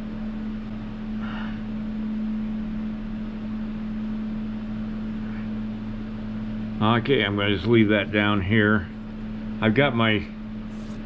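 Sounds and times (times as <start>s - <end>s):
space heater humming: 0.0s - 11.0s.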